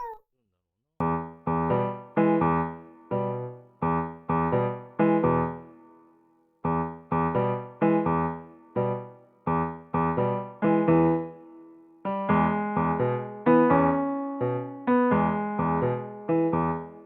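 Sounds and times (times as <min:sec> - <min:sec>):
electric piano melody: 0:01.0 - 0:05.8, 0:06.6 - 0:17.0.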